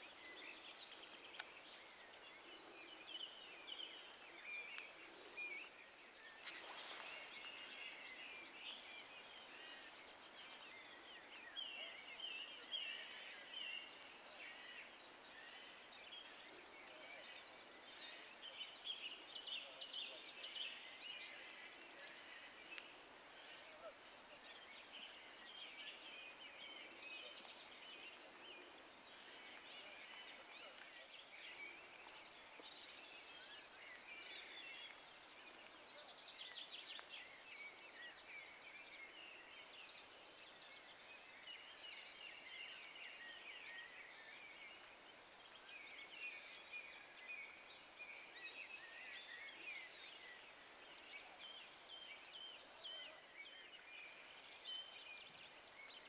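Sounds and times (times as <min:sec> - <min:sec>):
background hiss: 0:00.0 - 0:56.0
small birds chirping: 0:00.0 - 0:56.0.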